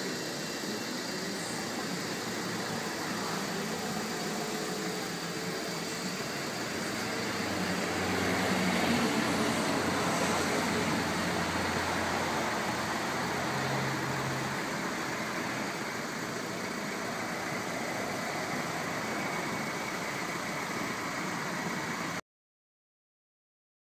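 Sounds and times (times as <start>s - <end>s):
motor vehicle hum: 0.0s - 22.2s.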